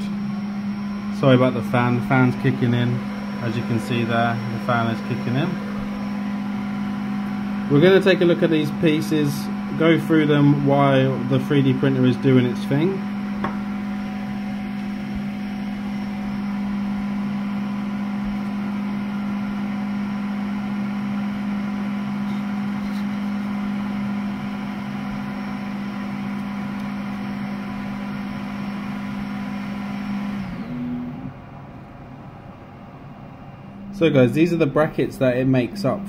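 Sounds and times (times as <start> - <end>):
cooling fan humming: 0.0 - 36.0.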